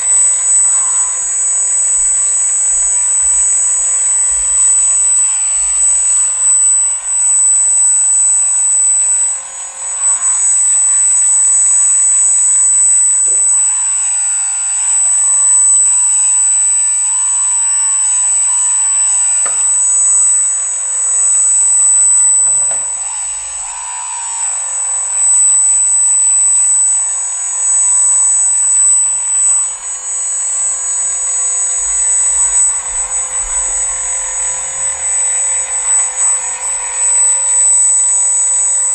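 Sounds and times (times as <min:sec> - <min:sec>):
hydraulic pump and motors whining: 0:00.0 - 0:38.9.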